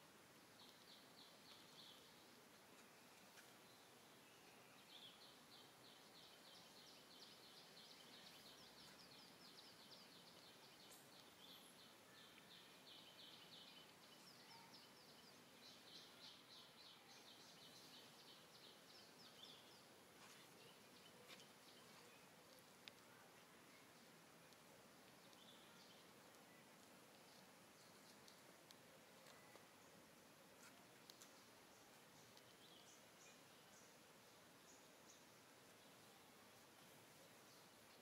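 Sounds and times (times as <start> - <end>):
faint outdoor ambience: 0.0 - 38.0.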